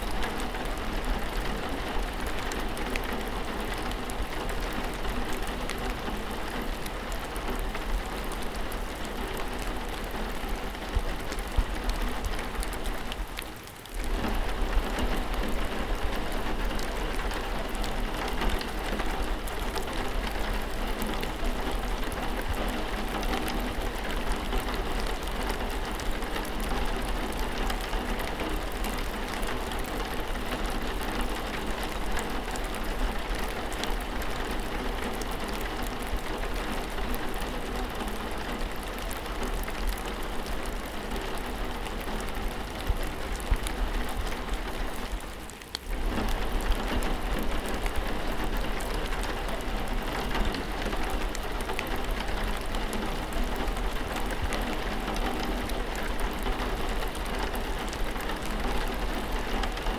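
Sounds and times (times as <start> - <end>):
raindrops ticking on surface: 0.0 - 59.9
steady rainfall hiss: 0.0 - 59.9.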